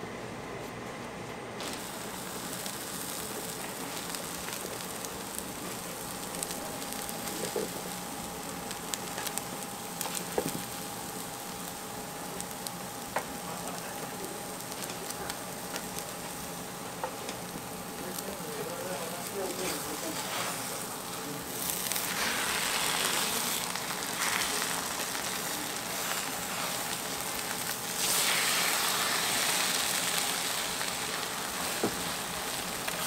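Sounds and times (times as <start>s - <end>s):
toast sizzling on griddle: 1.6s - 33.0s.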